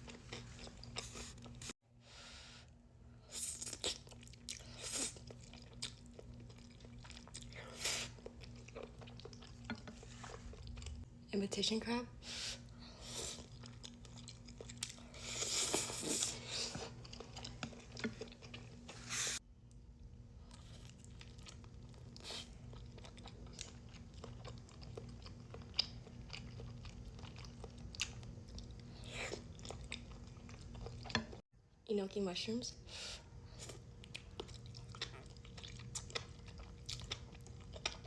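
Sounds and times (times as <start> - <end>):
chewing and crunching food: 0.0 - 1.8, 3.4 - 11.1, 12.6 - 31.4, 33.3 - 38.0.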